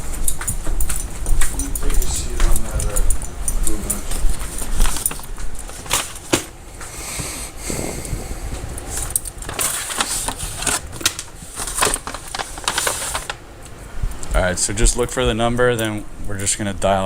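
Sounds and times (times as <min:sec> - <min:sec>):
rustling handling noise: 0:00.0 - 0:16.0.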